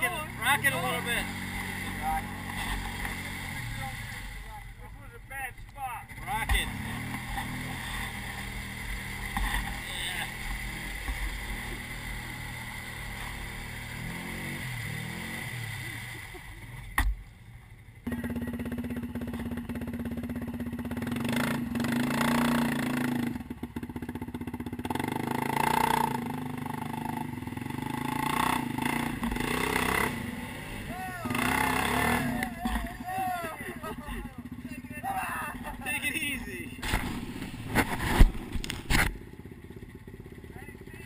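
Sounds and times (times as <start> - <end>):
wheels spinning in mud: 0.0 - 5.4, 6.1 - 17.0, 24.4 - 41.0
quad bike engine revving: 0.0 - 17.1, 17.7 - 41.0.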